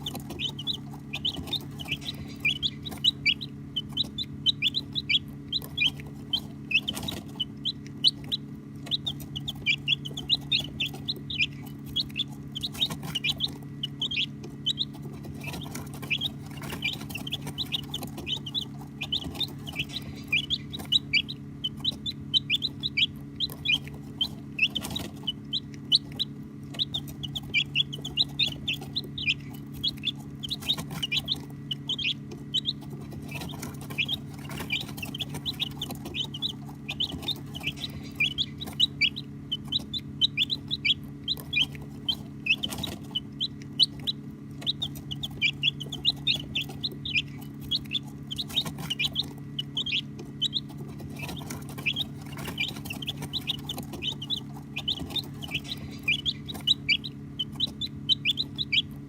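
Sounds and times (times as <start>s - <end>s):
baby chicks peeping: 0.0s - 59.0s
steady low hum: 0.0s - 59.0s.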